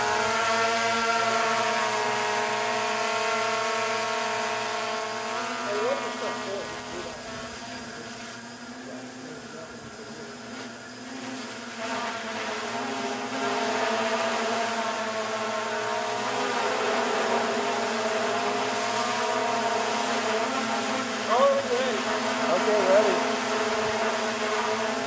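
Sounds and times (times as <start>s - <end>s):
small motor whining: 0.0s - 25.0s.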